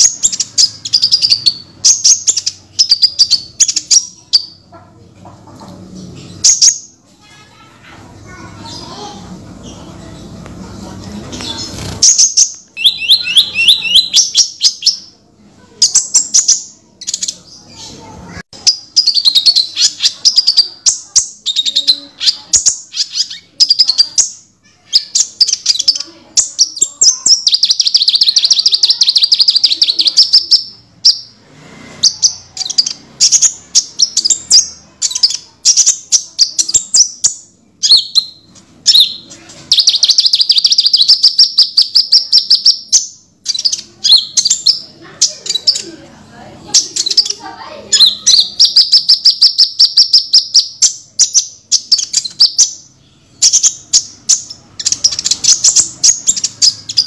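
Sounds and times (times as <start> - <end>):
bird chirping and trilling: 0.0 - 57.0.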